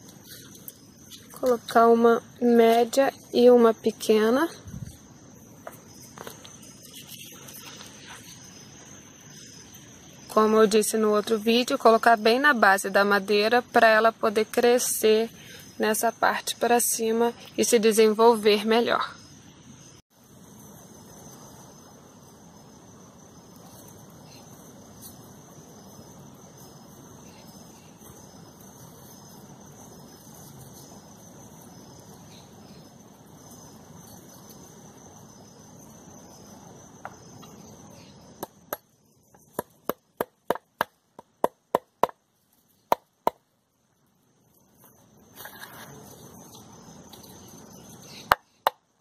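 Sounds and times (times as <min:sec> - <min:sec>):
insects chirring: 0:00.0 - 0:49.0.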